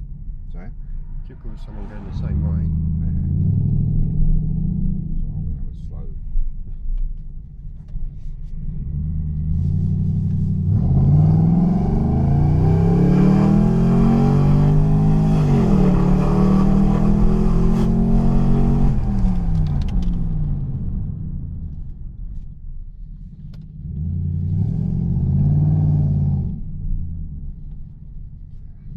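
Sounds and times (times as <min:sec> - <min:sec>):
car engine accelerating: 0:00.5 - 0:07.0, 0:07.7 - 0:28.9.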